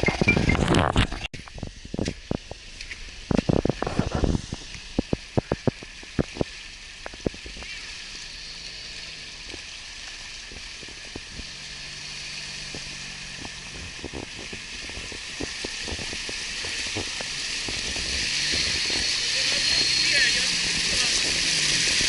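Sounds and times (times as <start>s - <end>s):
faint vehicle engine running: 0.0s - 22.0s
rushing river water: 1.6s - 22.0s.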